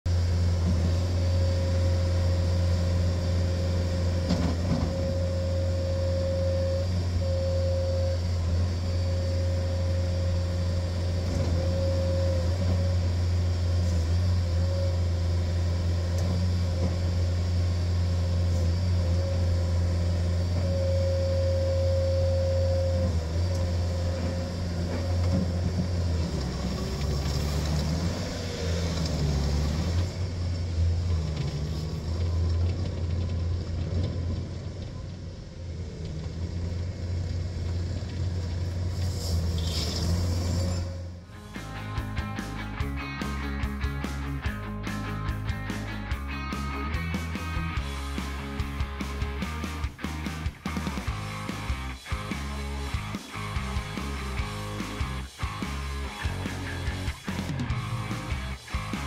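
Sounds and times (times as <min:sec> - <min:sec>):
diesel loader engine running: 0:00.0 - 0:59.0
high whine: 0:00.1 - 0:32.8, 0:38.6 - 0:59.0.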